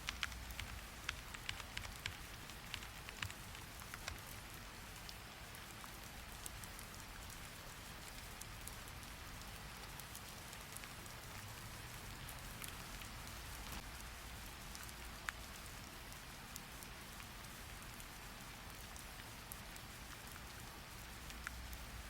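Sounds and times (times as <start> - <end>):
sharp raindrop ticks: 0.0 - 22.0
steady rain hiss: 0.0 - 22.0.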